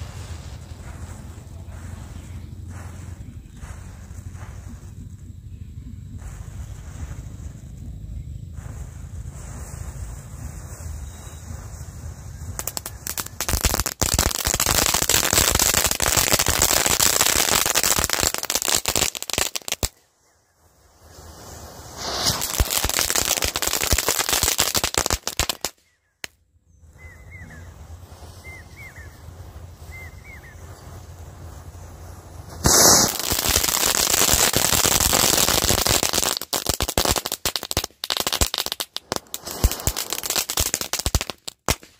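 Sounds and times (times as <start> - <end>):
loud firework burst: 0.0 - 4.9, 8.5 - 20.0, 20.8 - 25.7, 27.6 - 41.9
spark fountains hissing: 0.0 - 5.0, 8.5 - 19.9, 20.9 - 25.7, 27.8 - 41.9
firecrackers crackling and popping: 0.0 - 26.4, 27.3 - 41.9.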